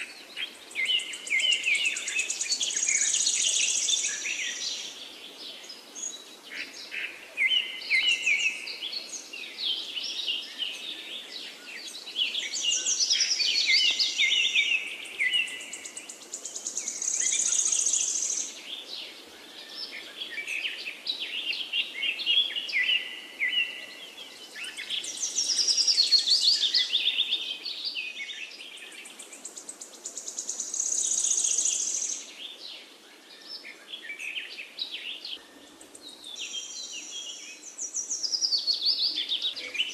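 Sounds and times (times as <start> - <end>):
birds singing: 0.0 - 39.9
faint steady hiss: 0.0 - 39.9.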